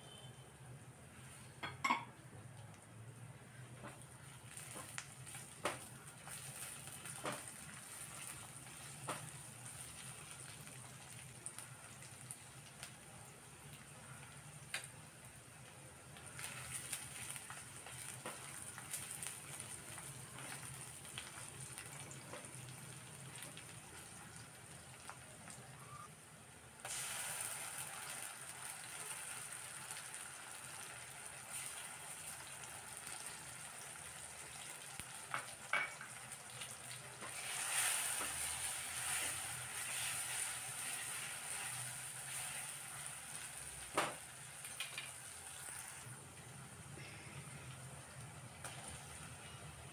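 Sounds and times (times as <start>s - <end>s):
onions sizzling in hot oil: 3.8s - 25.9s, 26.6s - 46.2s.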